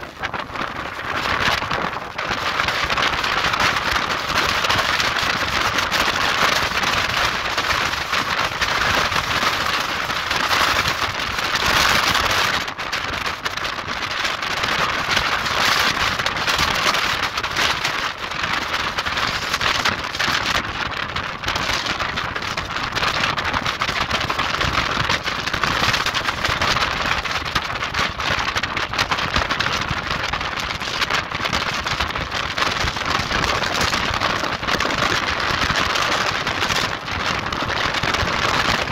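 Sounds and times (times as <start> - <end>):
storm wind buffeting microphone: 0.0 - 38.9.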